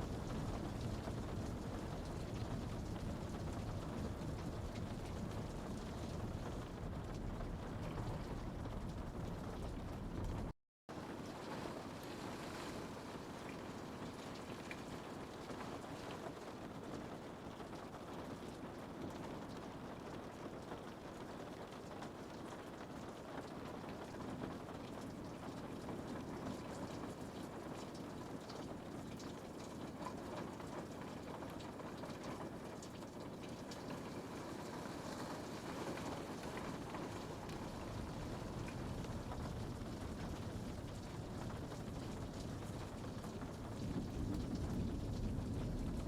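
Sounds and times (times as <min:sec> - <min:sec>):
raindrop ticks: 0:00.0 - 0:10.5, 0:14.4 - 0:46.0
steady rain hissing: 0:00.0 - 0:46.0.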